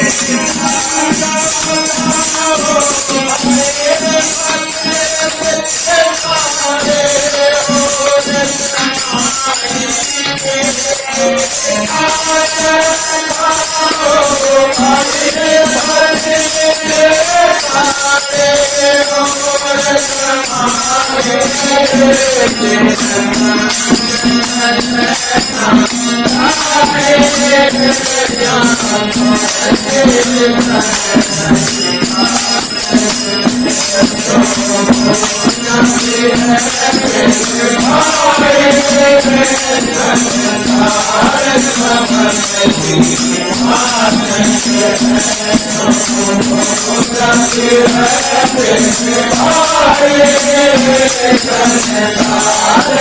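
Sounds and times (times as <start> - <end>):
jingling hand percussion: 0.0 - 53.0.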